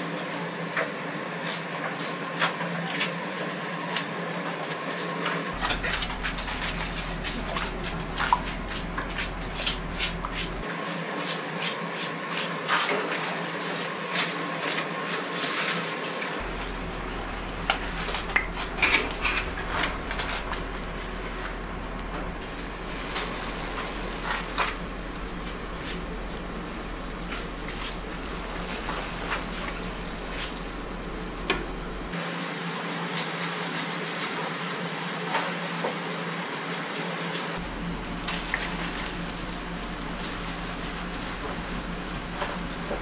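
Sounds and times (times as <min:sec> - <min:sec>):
workshop hum: 0:00.0 - 0:15.3, 0:16.0 - 0:43.0.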